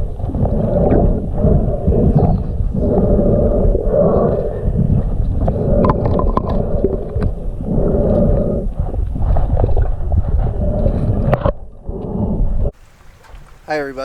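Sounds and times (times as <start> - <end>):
muffled rumble of water: 0.0 - 14.0.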